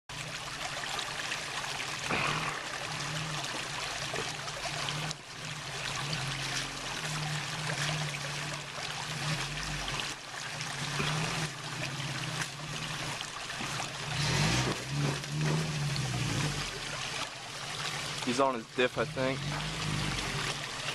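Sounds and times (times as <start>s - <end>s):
creek water over rocks: 0.1s - 20.9s
truck engine humming: 2.0s - 20.9s.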